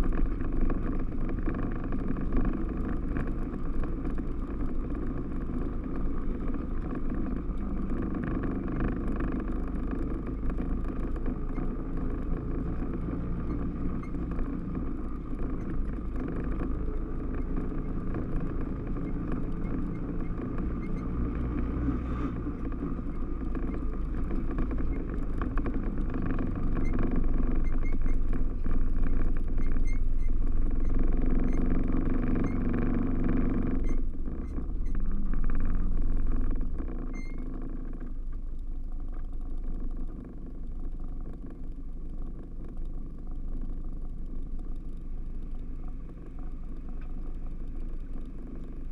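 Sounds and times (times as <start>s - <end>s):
side-by-side engine running: 0.0s - 48.9s.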